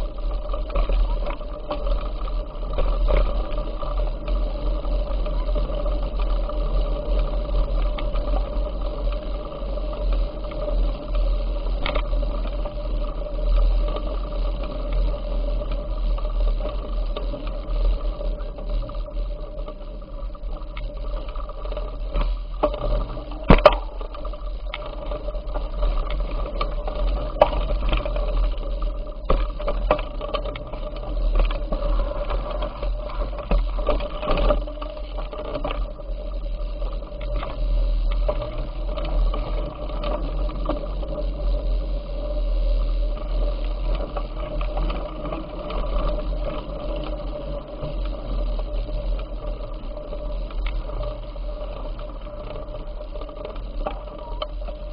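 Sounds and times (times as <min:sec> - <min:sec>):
bicycle rumbling and rattling: 0:00.0 - 0:54.9
small clicks: 0:00.1 - 0:54.9.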